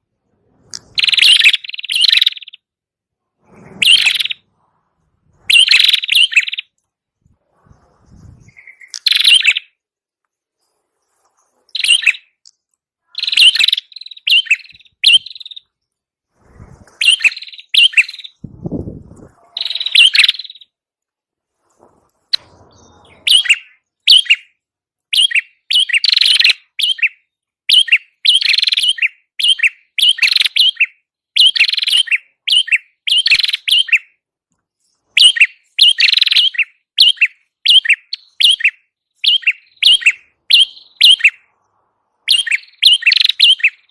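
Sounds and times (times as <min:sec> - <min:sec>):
songbird chirping: 0:00.0 - 0:03.0, 0:03.7 - 0:04.6, 0:05.2 - 0:43.9.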